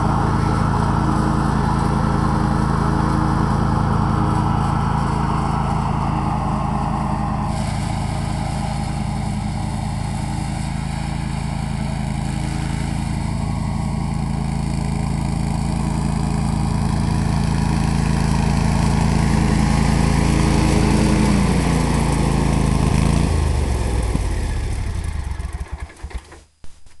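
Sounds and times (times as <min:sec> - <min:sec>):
garden tractor engine mowing: 0:00.0 - 0:26.5.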